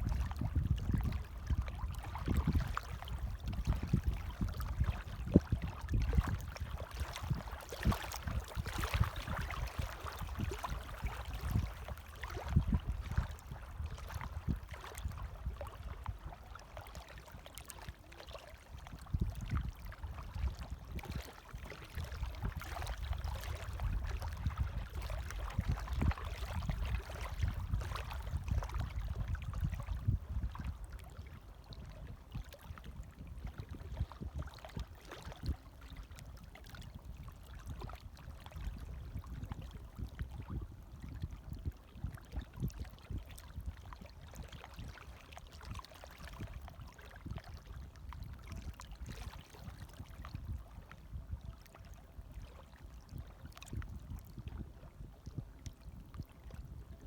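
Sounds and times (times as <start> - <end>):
gentle waves lapping: 1.0 - 29.2, 29.8 - 38.8, 39.5 - 50.9.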